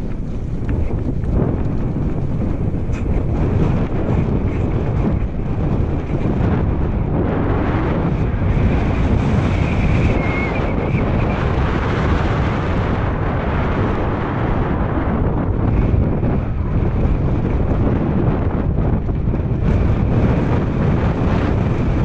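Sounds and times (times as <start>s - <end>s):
bike rolling over gravel: 0.0s - 22.0s
wind buffeting microphone: 0.0s - 22.0s.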